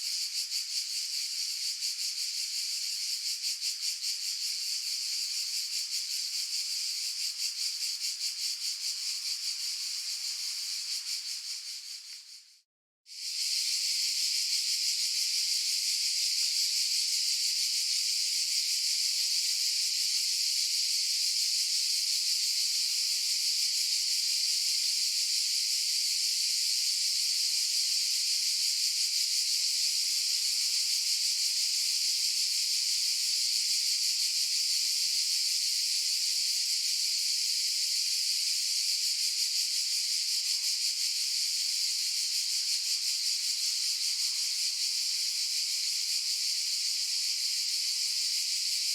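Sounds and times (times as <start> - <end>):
cicadas buzzing: 4.3 - 12.4, 13.2 - 23.7, 24.3 - 48.9.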